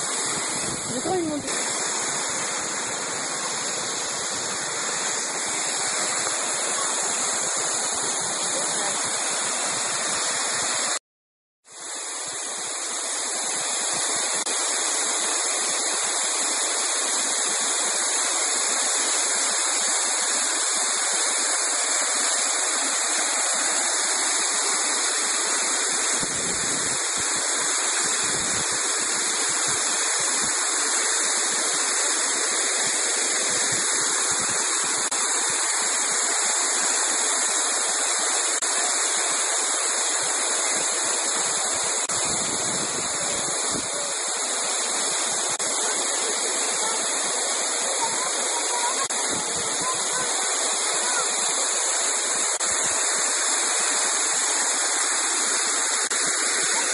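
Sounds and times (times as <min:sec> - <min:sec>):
waterfall rushing over rocks: 0:00.0 - 0:11.0, 0:11.7 - 0:56.9.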